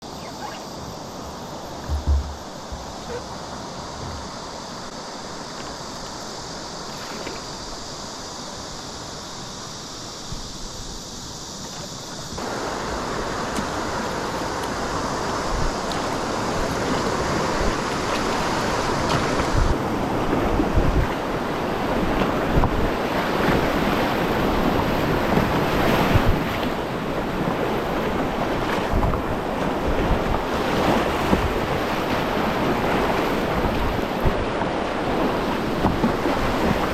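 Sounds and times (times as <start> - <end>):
rushing river water: 0.0 - 36.9
wind buffeting microphone: 1.7 - 4.7, 10.2 - 36.9.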